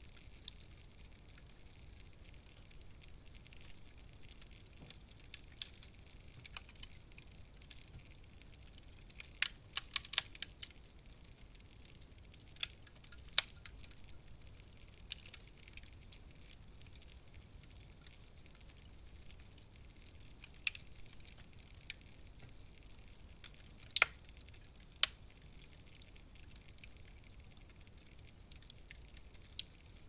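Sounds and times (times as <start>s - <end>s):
faint steady hiss: 0.0s - 30.0s
wood fire crackling: 0.0s - 30.0s.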